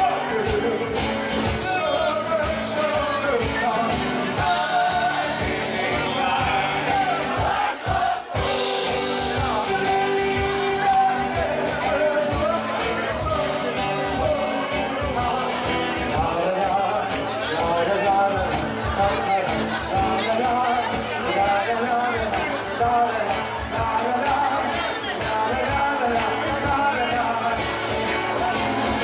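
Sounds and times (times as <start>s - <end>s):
live band with drums: 0.0s - 29.0s
person singing: 0.0s - 29.0s.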